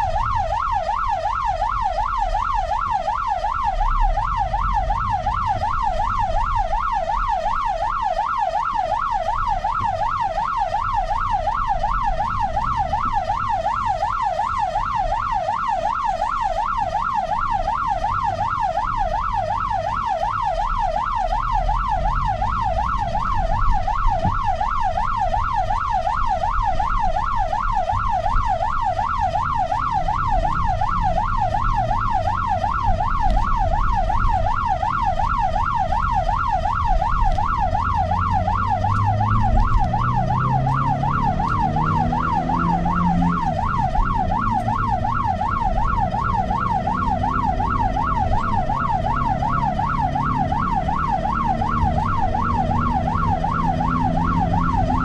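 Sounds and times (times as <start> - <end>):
ambulance siren yelping: 0.0 - 55.0
road and engine rumble: 0.0 - 55.0.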